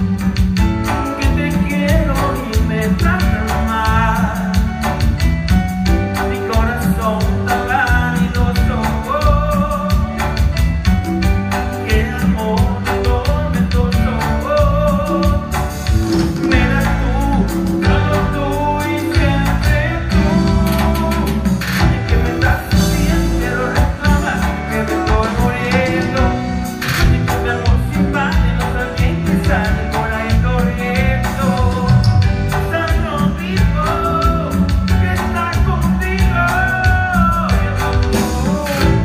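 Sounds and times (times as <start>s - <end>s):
person singing: 0.0s - 39.0s
steady driving beat: 0.0s - 39.0s.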